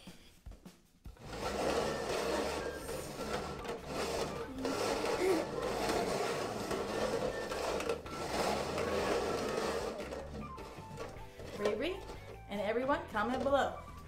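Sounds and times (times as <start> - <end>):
plastic cups scraping on tabletop: 1.2 - 14.0.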